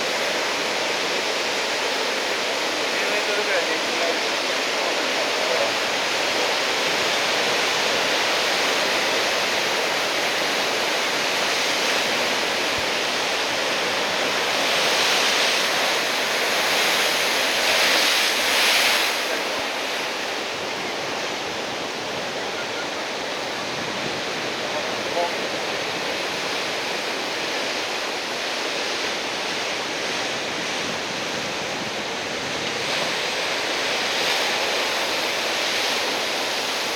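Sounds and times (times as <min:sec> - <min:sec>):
heavy surf breaking: 0:00.0 - 0:36.9.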